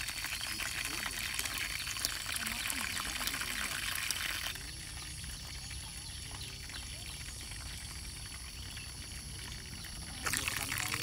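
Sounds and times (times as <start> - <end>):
low outdoor background: 0.0 - 11.0
pouring water: 0.0 - 11.0.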